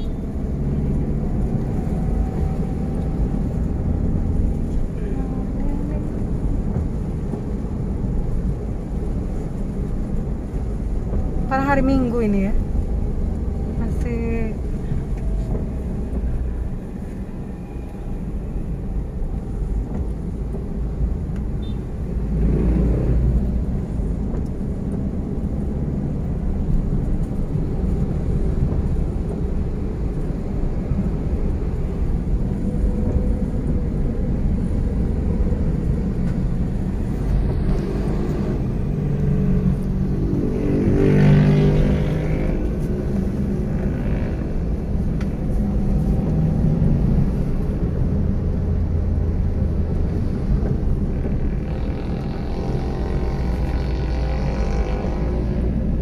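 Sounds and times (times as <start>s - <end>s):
engine and tyres rumbling: 0.0s - 56.0s.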